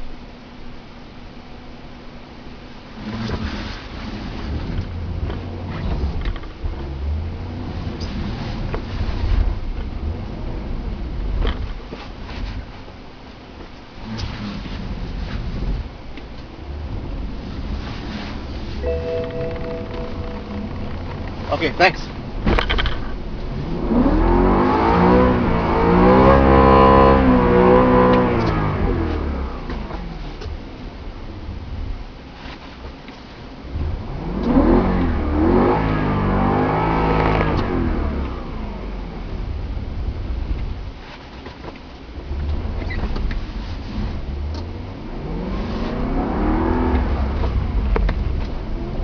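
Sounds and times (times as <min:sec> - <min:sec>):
car engine accelerating: 0:02.9 - 0:32.3, 0:33.5 - 0:40.9, 0:42.1 - 0:49.0.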